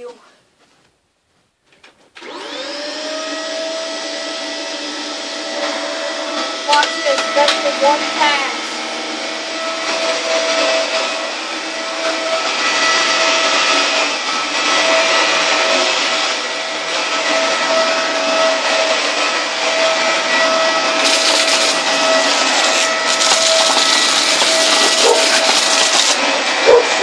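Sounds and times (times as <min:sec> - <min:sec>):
vacuum cleaner running on carpet: 0:02.2 - 0:27.0.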